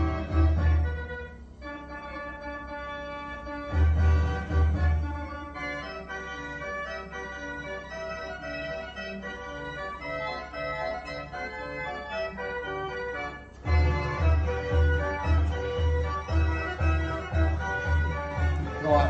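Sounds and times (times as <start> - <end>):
organ melody: 0.0 - 19.0.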